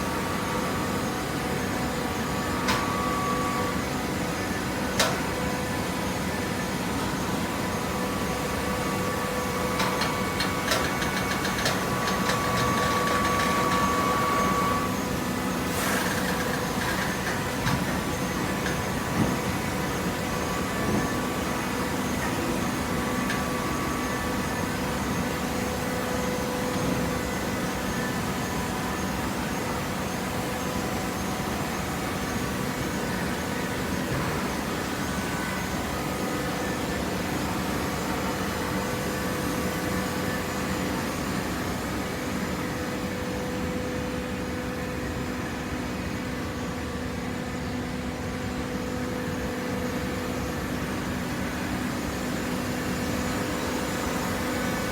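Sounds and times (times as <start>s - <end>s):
baler machine hum and whine: 0.0s - 54.9s.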